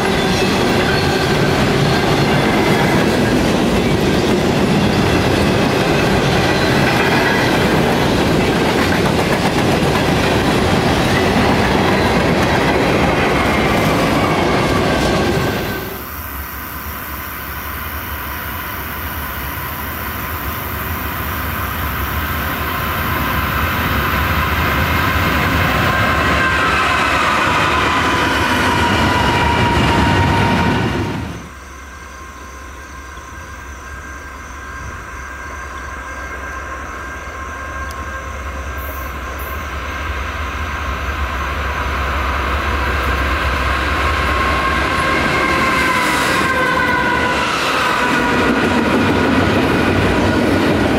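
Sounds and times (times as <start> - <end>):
steady high-pitched tones: 0.0 - 50.9.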